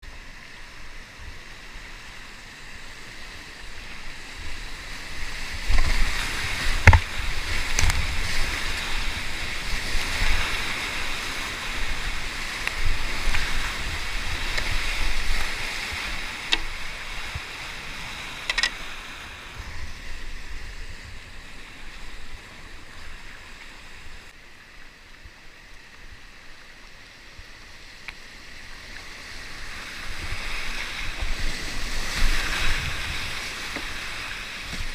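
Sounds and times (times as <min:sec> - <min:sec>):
whitewater rushing: 0:00.1 - 0:26.8, 0:28.3 - 0:34.9
paddle splashes: 0:00.4 - 0:24.6, 0:28.7 - 0:34.9.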